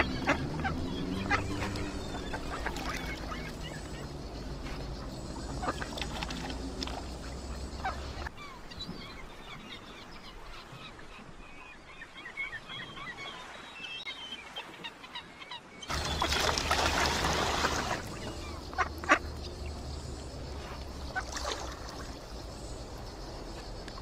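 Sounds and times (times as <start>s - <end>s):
birds chirping and calling: 0.0s - 11.0s, 12.0s - 24.0s.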